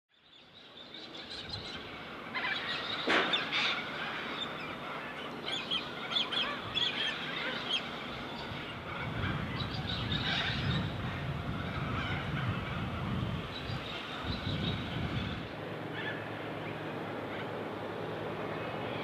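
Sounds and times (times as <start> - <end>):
birds calling: 0.2 - 19.0
steady background hiss: 0.2 - 19.0.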